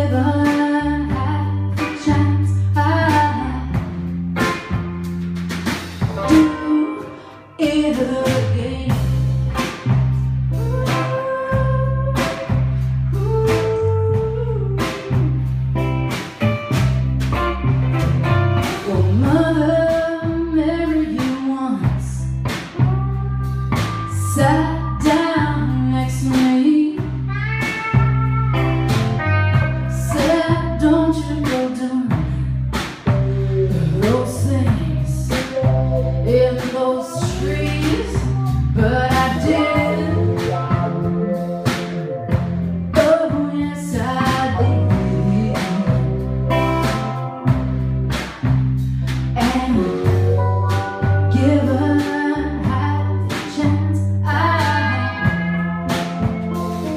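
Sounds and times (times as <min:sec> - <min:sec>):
woman singing lead: 0:00.0 - 0:04.0, 0:06.2 - 0:15.6, 0:18.6 - 0:47.8, 0:49.3 - 0:56.9
bass guitar: 0:00.0 - 0:56.9
drum kit: 0:00.0 - 0:56.9
electric guitars: 0:00.0 - 0:56.9.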